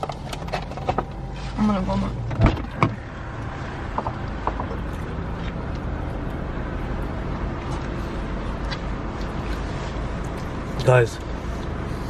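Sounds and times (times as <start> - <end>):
car cabin hum: 0.0 - 11.9.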